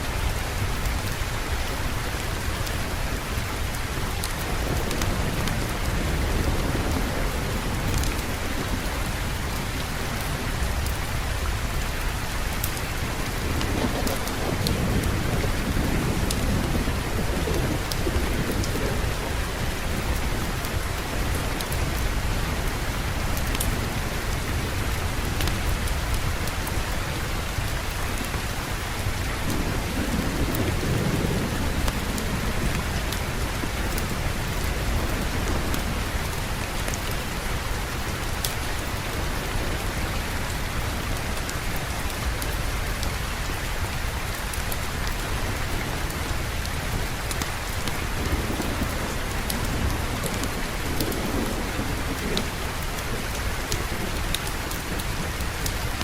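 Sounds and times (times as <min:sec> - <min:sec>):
heavy rain: 0:00.0 - 0:56.0
thunder rumbling: 0:00.1 - 0:56.0.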